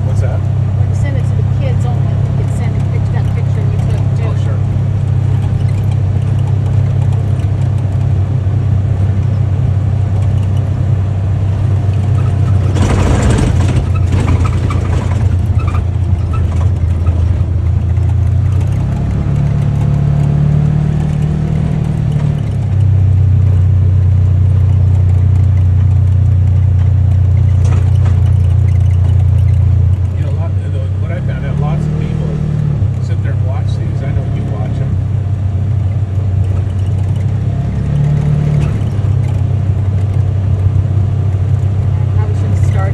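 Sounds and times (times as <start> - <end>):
utility vehicle engine drone: 0.0 - 42.9.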